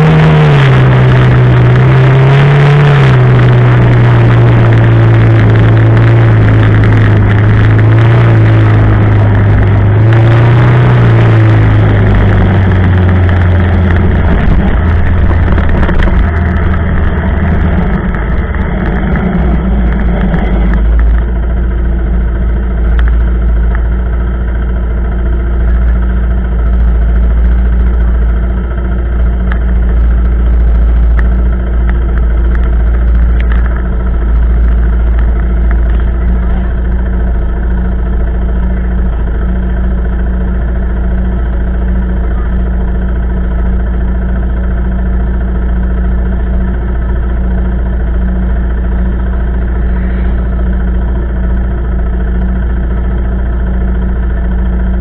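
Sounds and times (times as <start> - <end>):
quad bike engine idling: 0.0 - 55.0.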